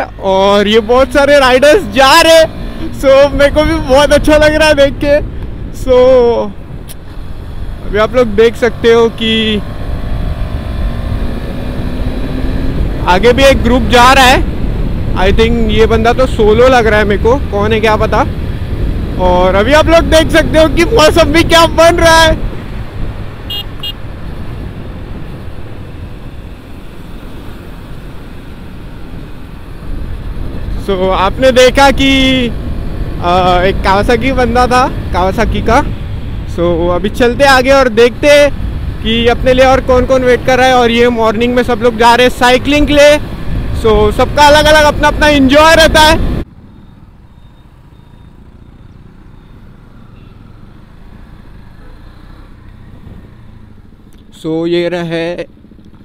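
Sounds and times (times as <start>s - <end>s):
wind rushing over microphone: 0.0s - 23.5s, 24.1s - 46.5s
tyres on road: 0.0s - 56.0s.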